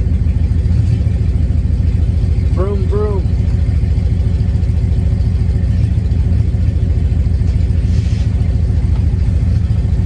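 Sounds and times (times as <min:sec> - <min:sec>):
van engine exhaust rumble: 0:00.0 - 0:10.0.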